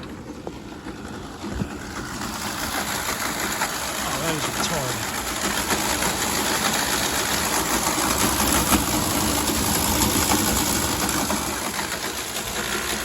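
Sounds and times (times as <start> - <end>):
air conditioner churning: 0.0 - 13.0.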